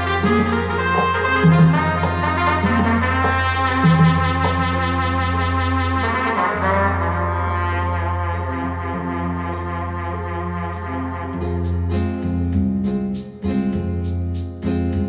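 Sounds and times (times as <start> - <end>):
brass-like keyboard chords: 0.0 - 15.0.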